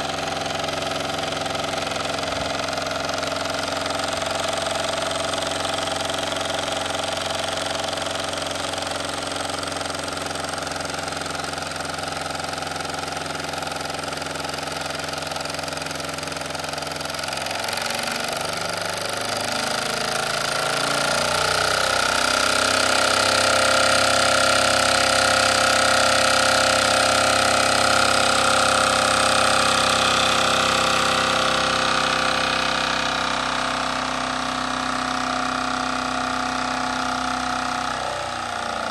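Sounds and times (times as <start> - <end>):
model steam engine running: 0.0 - 38.9.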